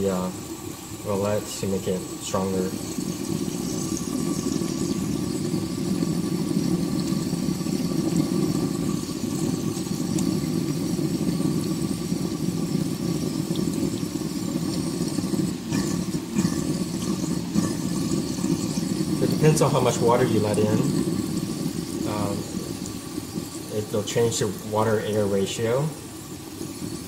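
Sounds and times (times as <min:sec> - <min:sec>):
pump churning water and air: 0:00.0 - 0:27.0.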